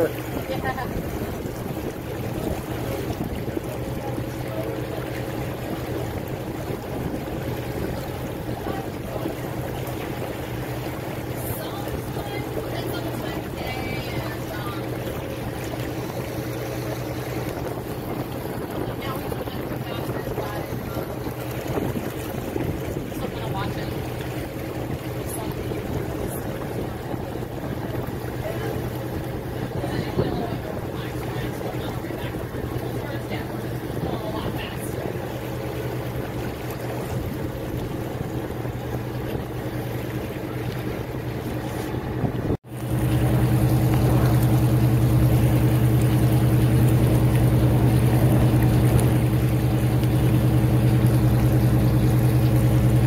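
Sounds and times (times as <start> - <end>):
boat engine humming: 0.0 - 53.0
water rushing along hull: 0.0 - 53.0.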